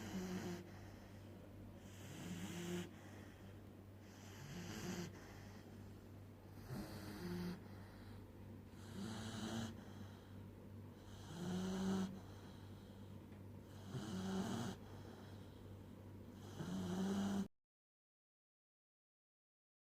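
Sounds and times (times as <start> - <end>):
puppy snoring: 0.0 - 17.5.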